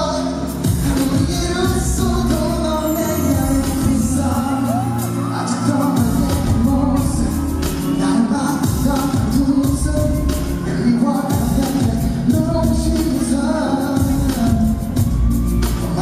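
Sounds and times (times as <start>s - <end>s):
man singing: 0.0s - 16.0s
pop backing track with drums: 0.0s - 16.0s.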